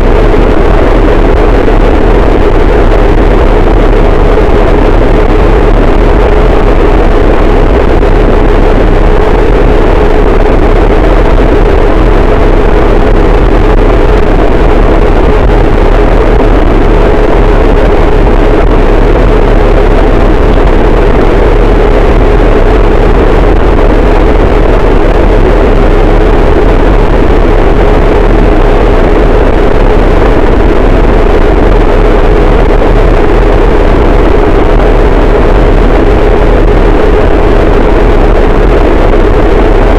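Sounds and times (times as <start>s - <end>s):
harsh distorted static noise: 0.0s - 39.9s.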